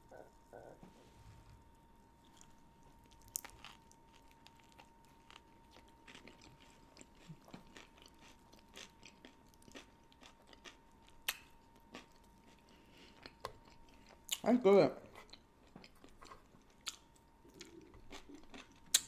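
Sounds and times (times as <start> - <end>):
chewing and biting food: 2.2 - 14.4, 15.2 - 19.0.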